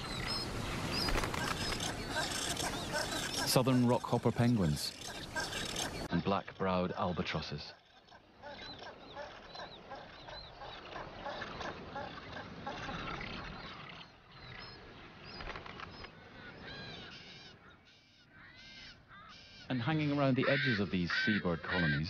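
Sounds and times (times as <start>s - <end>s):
seabird colony calling: 0.0s - 22.0s.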